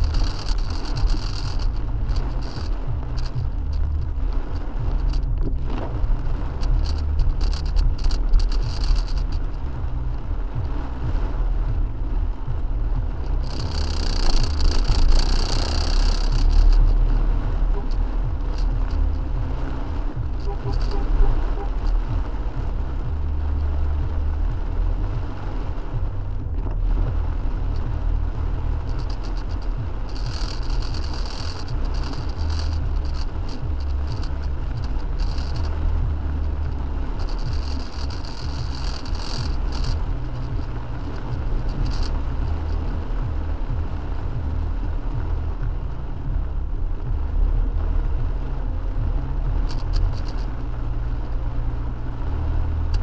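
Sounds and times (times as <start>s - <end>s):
car driving on wet road: 0.0s - 53.0s
crackling hiss: 0.0s - 53.0s.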